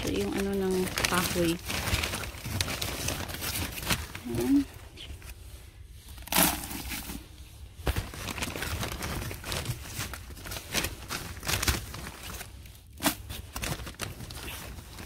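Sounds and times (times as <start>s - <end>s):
wood shavings rustling and crinkling: 0.0s - 5.5s, 6.2s - 15.0s.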